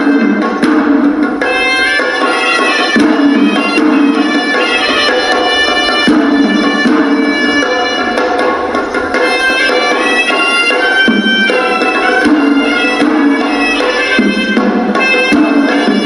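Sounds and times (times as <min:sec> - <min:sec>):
drums beating steady rhythm: 0:00.0 - 0:16.0
shrill double-reed pipe melody: 0:01.3 - 0:16.0.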